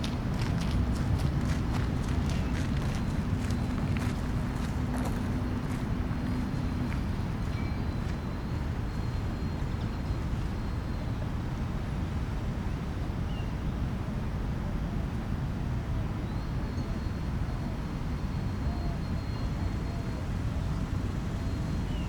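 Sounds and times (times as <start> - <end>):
distant city traffic rumble: 0.0 - 22.0.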